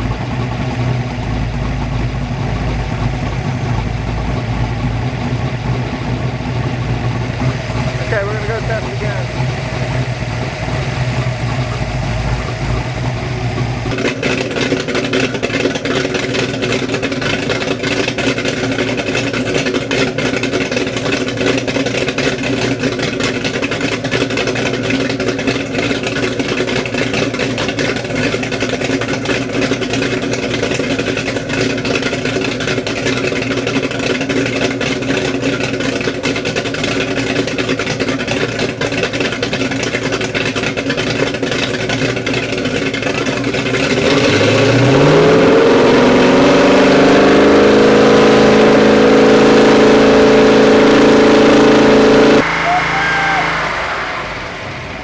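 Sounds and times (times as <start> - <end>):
marine race engine running: 0.0 - 55.0.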